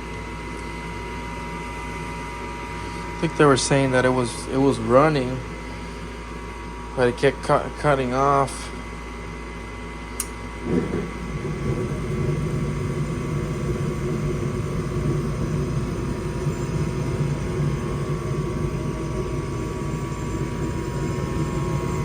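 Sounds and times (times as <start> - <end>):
furnace inducer motor droning: 0.0 - 22.0.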